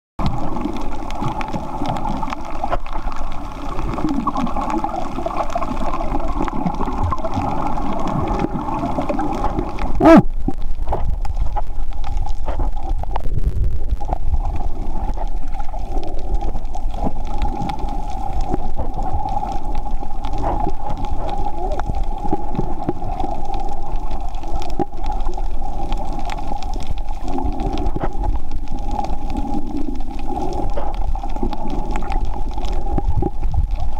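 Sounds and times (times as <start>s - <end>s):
muffled underwater water noise: 0.2s - 33.9s
water gurgle: 0.2s - 33.9s.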